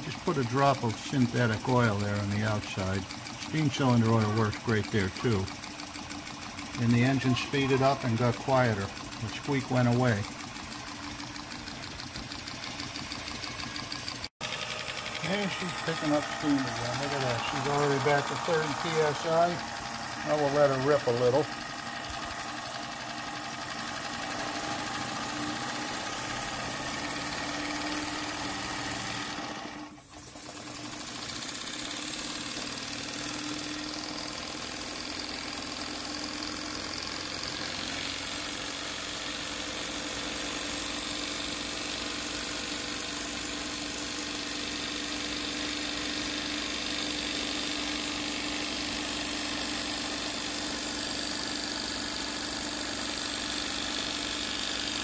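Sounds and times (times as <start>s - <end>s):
steam engine running: 0.0s - 55.0s.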